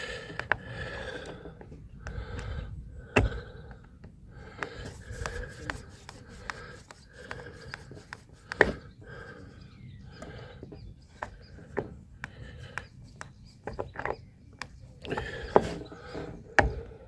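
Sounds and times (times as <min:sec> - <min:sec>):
screwdriver turning screw in wood: 0:00.3 - 0:09.5, 0:11.0 - 0:17.0.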